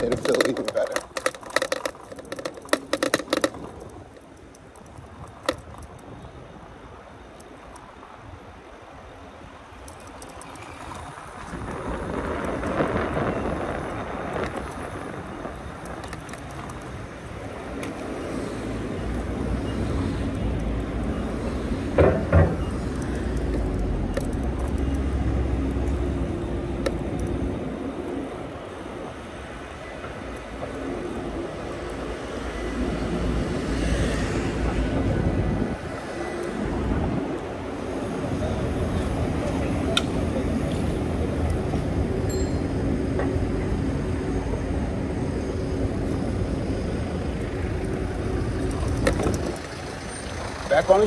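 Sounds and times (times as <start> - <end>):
bicycle tire noise: 0.0 - 51.0
wind rushing over microphone: 0.0 - 51.0.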